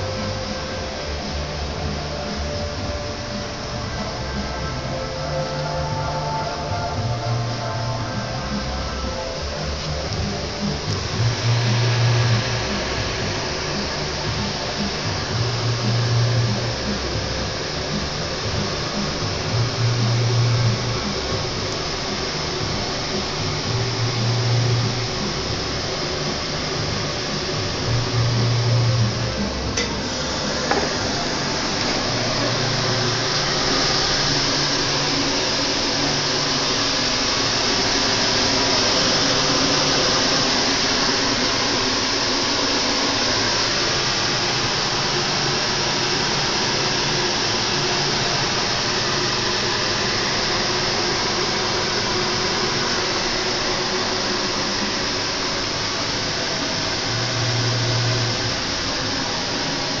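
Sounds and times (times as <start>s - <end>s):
loud rushing noise: 0.0s - 60.0s
low hum: 0.0s - 60.0s.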